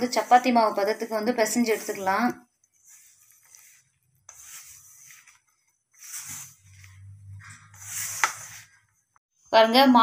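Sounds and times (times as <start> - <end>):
hand mixing dough in metal bowl: 0.0 - 9.2.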